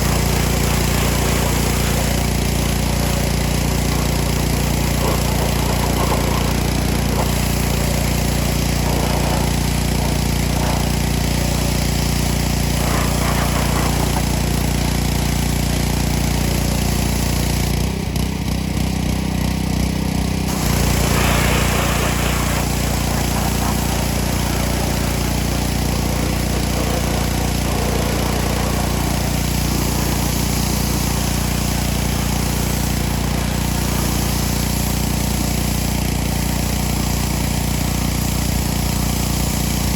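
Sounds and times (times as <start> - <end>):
water jet hissing: 0.0 - 17.6, 20.5 - 39.9
pressure washer engine running: 0.0 - 39.9.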